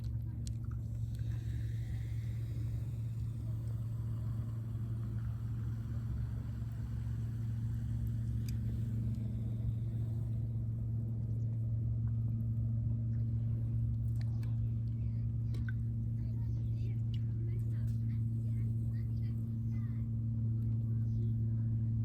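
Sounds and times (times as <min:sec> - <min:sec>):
low engine hum with rumble: 0:00.0 - 0:22.0.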